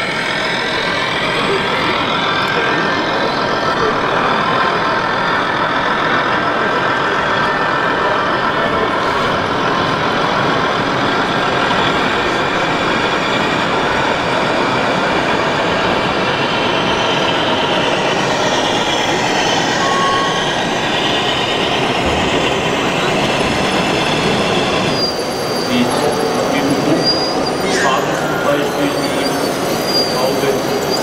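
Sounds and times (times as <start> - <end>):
crowd noise: 0.0 - 31.0
model trucks running: 0.0 - 31.0.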